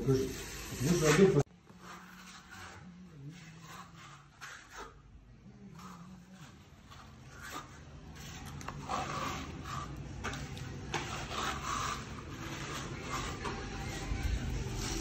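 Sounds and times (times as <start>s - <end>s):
trowel scraping plaster on wall: 0.0s - 5.0s, 5.7s - 15.0s.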